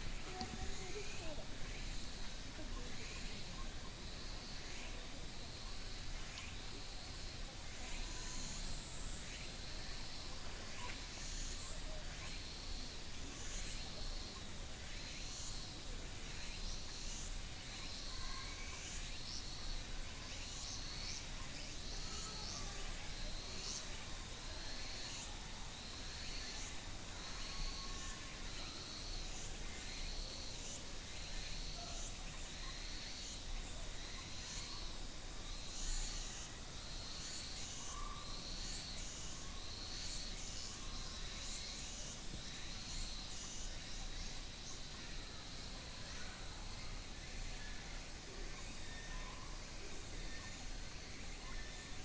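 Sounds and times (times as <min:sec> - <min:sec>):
insect chorus drone: 0:00.0 - 0:52.0
steady hiss: 0:00.0 - 0:52.0.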